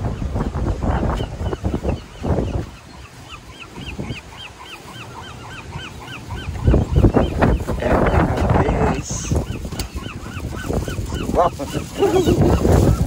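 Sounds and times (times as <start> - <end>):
wind on microphone: 0.0 - 4.4, 5.6 - 13.0
gull calling: 0.1 - 13.0.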